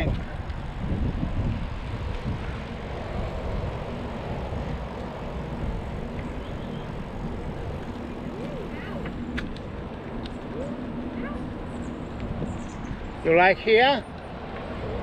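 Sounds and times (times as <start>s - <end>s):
wind buffeting microphone: 0.0s - 15.0s
faint steady drone: 2.0s - 15.0s.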